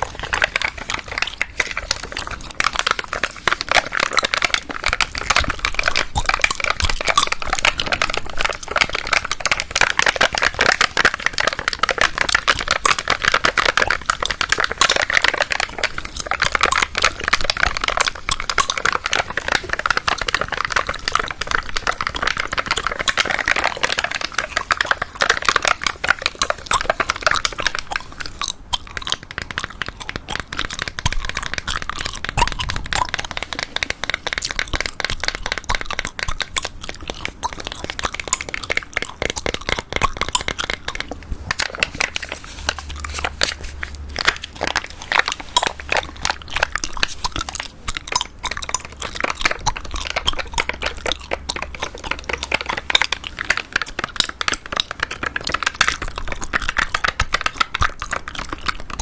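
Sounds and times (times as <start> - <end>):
gum chewing: 0.0 - 59.0.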